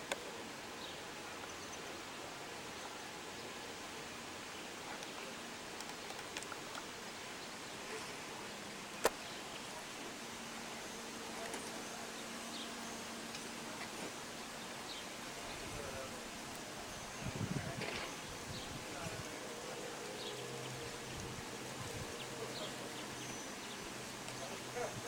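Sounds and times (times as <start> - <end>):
faint background hiss: 0.0 - 25.0.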